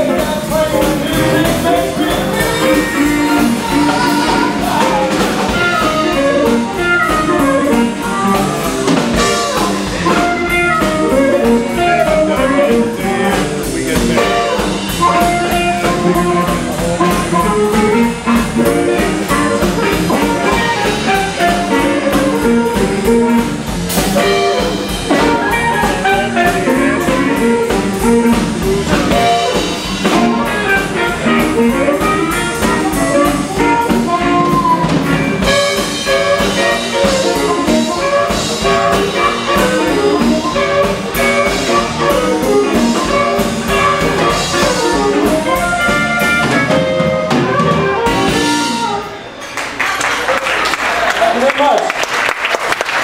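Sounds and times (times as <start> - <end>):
harmonica through microphone: 0.0 - 49.4
electric guitar: 0.0 - 49.6
bass guitar: 0.0 - 49.7
drum kit: 0.0 - 49.8.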